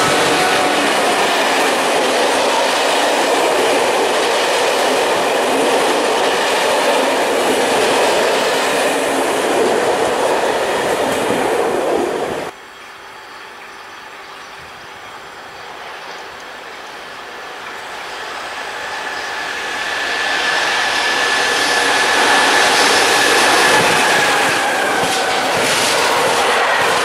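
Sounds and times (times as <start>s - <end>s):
electric freight train passing: 0.0s - 27.0s.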